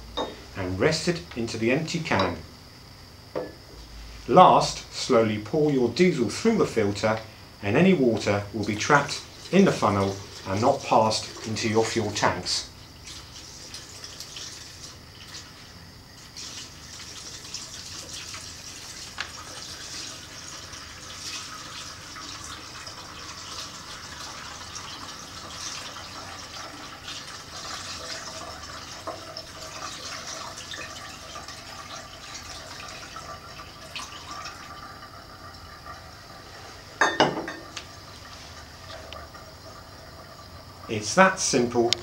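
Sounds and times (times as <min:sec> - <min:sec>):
fuel trickling into funnel: 0:05.5 - 0:37.0, 0:37.6 - 0:41.8.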